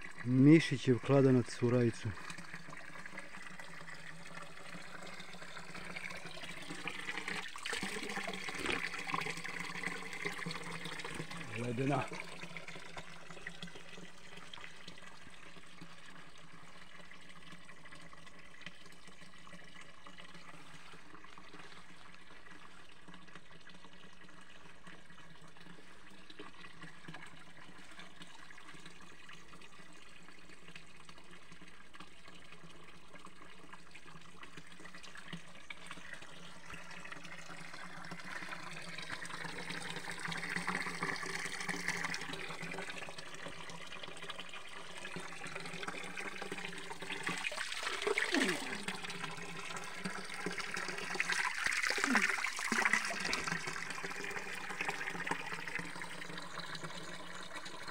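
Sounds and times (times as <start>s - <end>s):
water pouring into pool: 0.0s - 57.9s.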